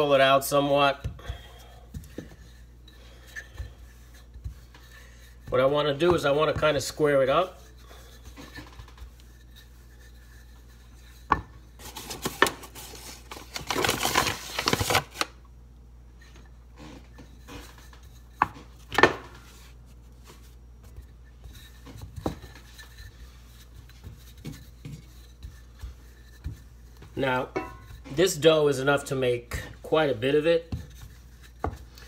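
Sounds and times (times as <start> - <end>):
rolling pin rolling dough: 0.0 - 13.8, 16.1 - 32.0.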